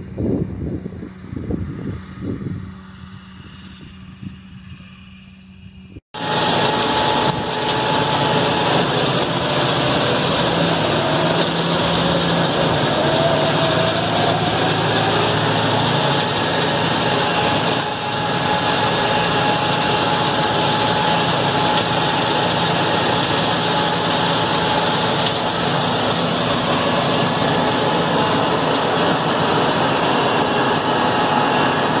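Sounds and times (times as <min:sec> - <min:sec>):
tractor and mower drone: 0:00.0 - 0:32.0.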